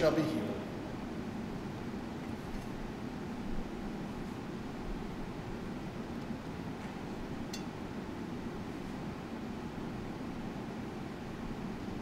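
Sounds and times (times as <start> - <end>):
low room hum and hiss: 0.0 - 12.0.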